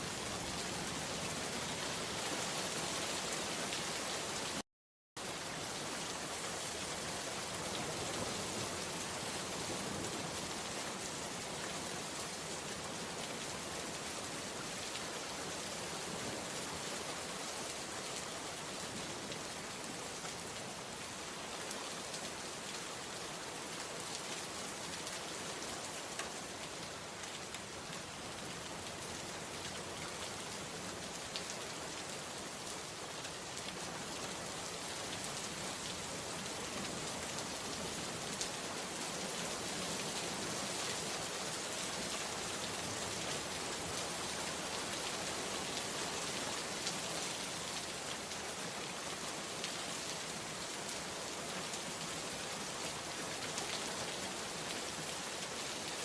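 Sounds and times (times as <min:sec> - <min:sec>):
steady rain falling: 0:00.0 - 0:04.6, 0:05.2 - 0:56.0.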